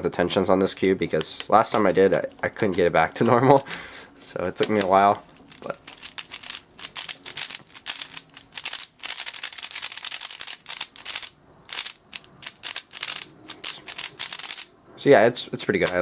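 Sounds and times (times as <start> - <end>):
plastic puzzle cube clacking: 0.6 - 3.7, 4.6 - 14.7.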